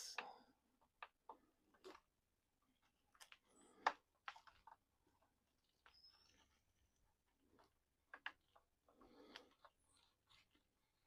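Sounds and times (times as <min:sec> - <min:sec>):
faint clicks of plastic parts: 0:00.0 - 0:11.0.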